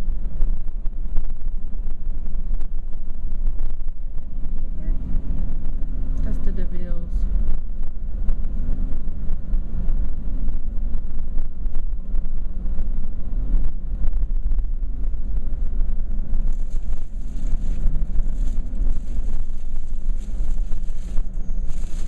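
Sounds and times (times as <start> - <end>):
car engine and tyres rumble: 0.0 - 22.0
wind buffeting microphone: 0.0 - 22.0.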